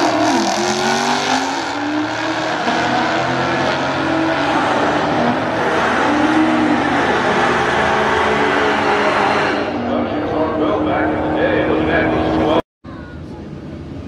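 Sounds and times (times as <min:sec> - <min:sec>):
drag car engines accelerating: 0:00.0 - 0:12.6.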